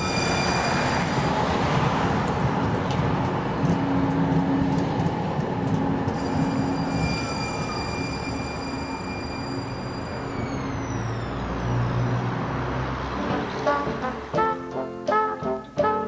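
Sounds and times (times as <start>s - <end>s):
streetcar hum: 0.0s - 16.0s
streetcar wheels rumbling: 0.0s - 16.0s.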